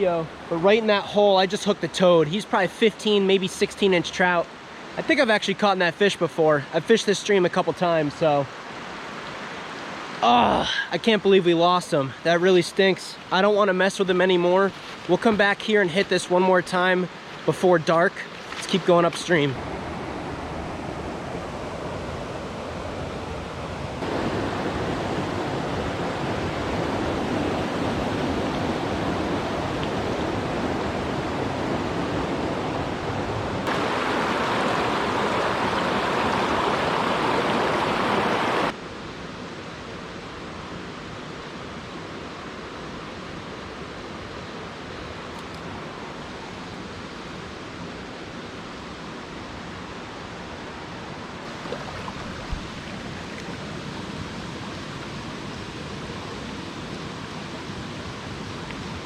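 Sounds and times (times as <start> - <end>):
mountain creek rushing: 0.0 - 59.0.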